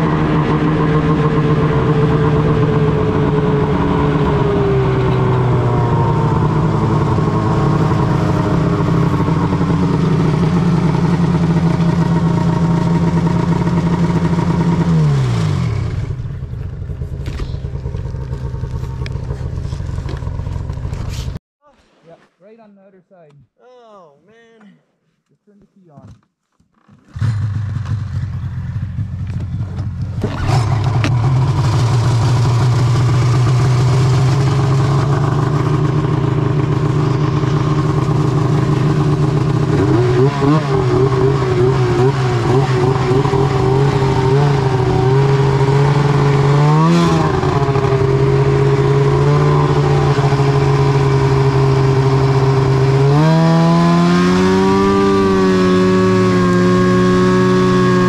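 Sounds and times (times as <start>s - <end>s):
snowmobile engine revving: 0.0s - 21.4s, 27.1s - 58.0s.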